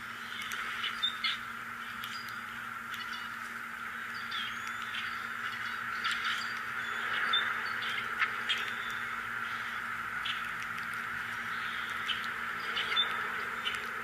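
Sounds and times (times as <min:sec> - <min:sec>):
steady background hiss: 0:00.0 - 0:14.0
high bird chirps: 0:00.2 - 0:10.6, 0:11.2 - 0:13.9.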